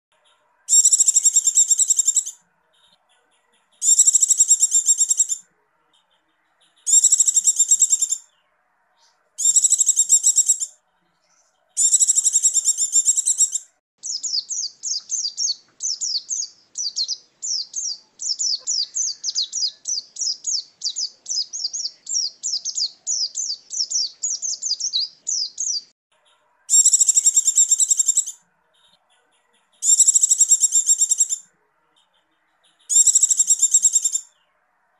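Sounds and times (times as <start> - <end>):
quick down-slurred bird chirps: 0.1 - 34.5
bird twittering song: 0.1 - 34.9.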